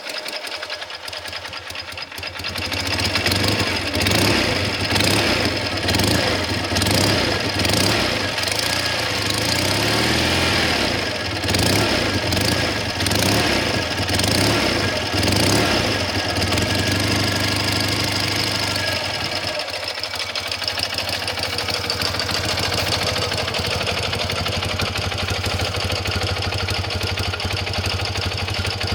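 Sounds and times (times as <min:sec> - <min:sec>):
motorcycle engine idling: 0:00.0 - 0:28.9
motorcycle engine throttle blips: 0:02.5 - 0:28.9.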